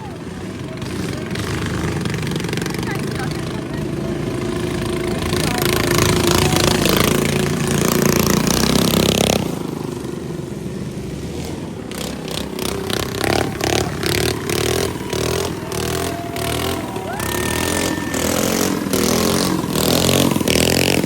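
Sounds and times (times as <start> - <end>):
motorcycle engine: 0.0 - 21.0
vehicle engines revving: 0.0 - 21.0.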